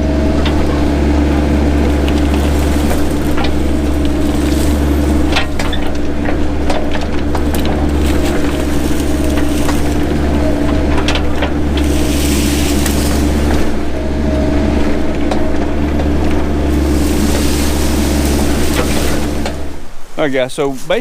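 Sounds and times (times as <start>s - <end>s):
underbrush cracking and rustling: 0.0s - 20.0s
diesel engine running: 0.0s - 21.0s.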